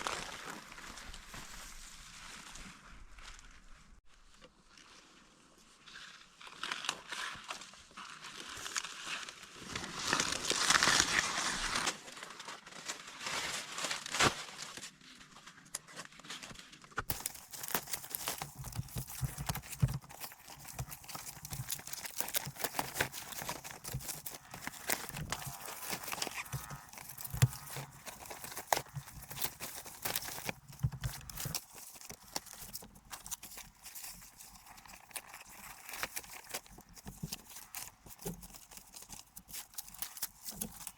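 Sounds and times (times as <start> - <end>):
rustling and crinkling: 0.0 - 40.9.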